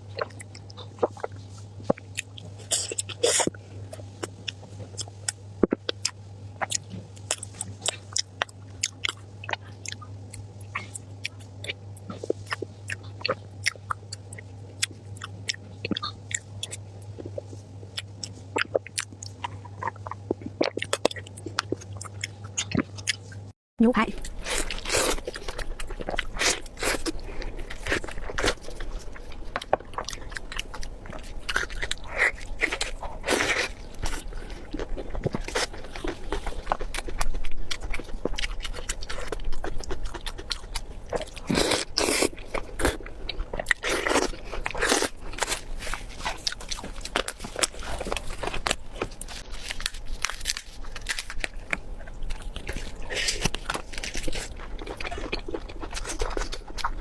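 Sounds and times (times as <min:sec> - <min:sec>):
biting and chewing: 0:00.0 - 0:23.5, 0:24.1 - 0:57.0.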